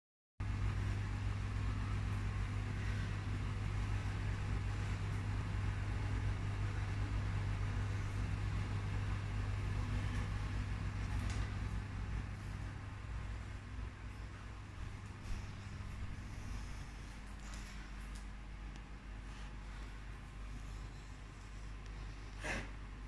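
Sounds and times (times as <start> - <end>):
steady low hum: 0.4 - 23.0.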